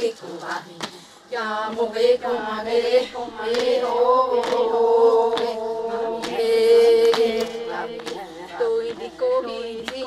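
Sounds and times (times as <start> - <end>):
women chanting in unison: 0.0 - 10.0.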